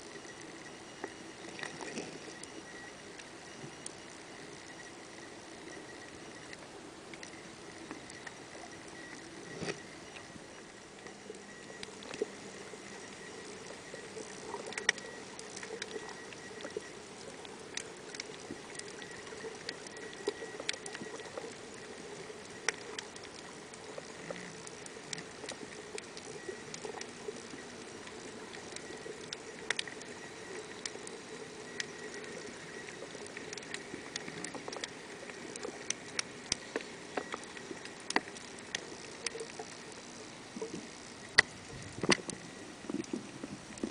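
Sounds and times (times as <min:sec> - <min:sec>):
sharp underwater clicks: 0:00.3 - 0:43.9.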